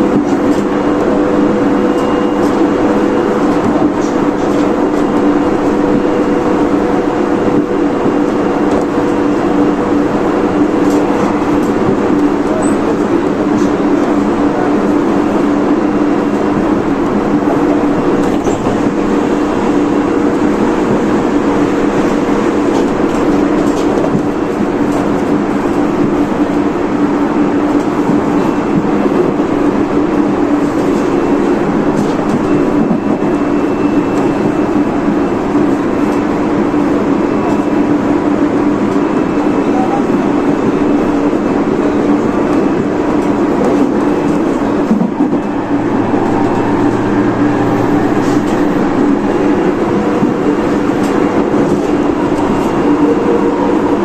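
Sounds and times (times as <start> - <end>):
train steady hum: 0.0 - 54.0
wheels rumbling on rail: 0.0 - 54.0.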